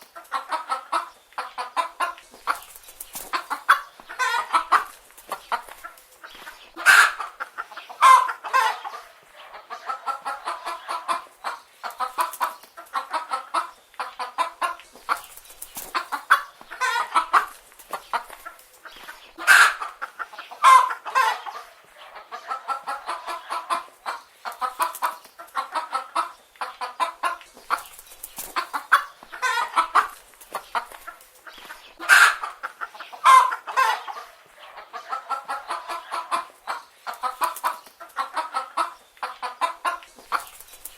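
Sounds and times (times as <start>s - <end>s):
hens clucking: 0.0s - 40.9s.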